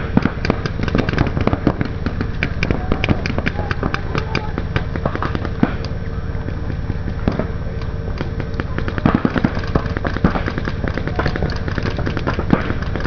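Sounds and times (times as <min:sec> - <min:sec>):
paintball markers firing: 0:00.0 - 0:13.0.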